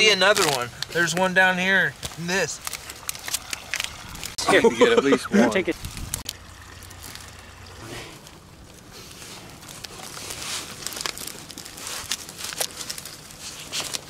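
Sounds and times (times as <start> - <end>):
dry stalks rustling and crackling: 0.0 - 4.4, 5.7 - 14.0.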